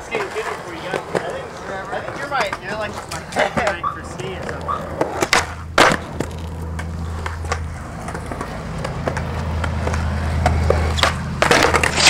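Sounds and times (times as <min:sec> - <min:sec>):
skateboard tail clacks: 0:00.0 - 0:12.0
skateboard wheels rolling on concrete: 0:00.0 - 0:12.0.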